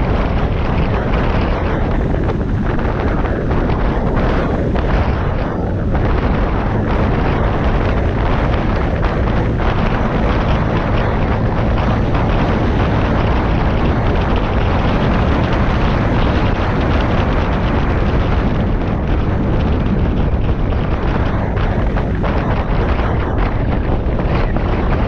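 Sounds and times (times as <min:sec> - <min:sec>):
road noise: 0:00.0 - 0:25.0
wind buffeting on microphone: 0:00.0 - 0:25.0.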